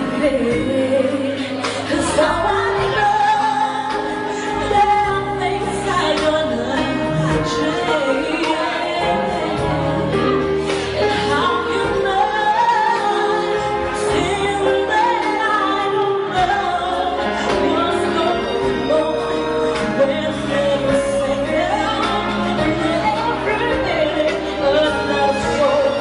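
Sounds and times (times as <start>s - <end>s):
instrumental backing music: 0.0s - 26.0s
woman singing pop ballad: 0.0s - 26.0s.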